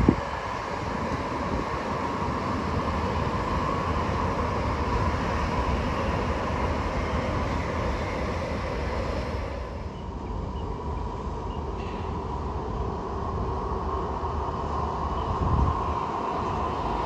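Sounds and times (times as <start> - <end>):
high-speed train rumbling: 0.0 - 17.0.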